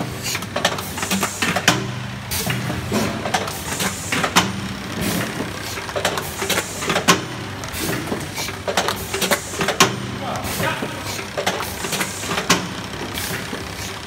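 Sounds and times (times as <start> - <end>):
mechanical clacks: 0.3 - 14.0.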